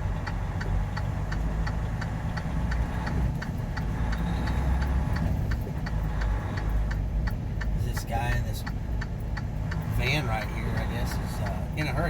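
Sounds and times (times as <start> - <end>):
diesel engine rumbling: 0.0 - 12.0
turn signal ticking: 0.0 - 12.0.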